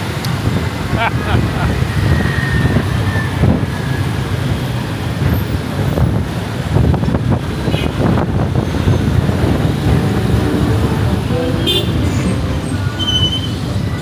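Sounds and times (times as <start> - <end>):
motorbike traffic rumble: 0.0 - 14.0.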